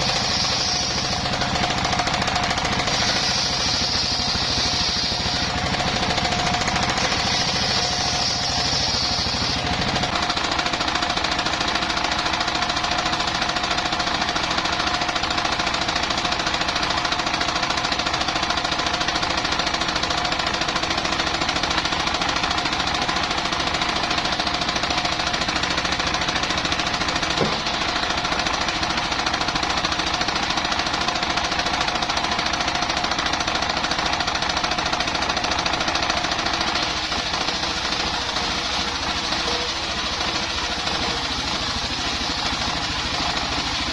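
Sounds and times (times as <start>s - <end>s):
sawmill engine and spinning blade: 0.0s - 43.9s.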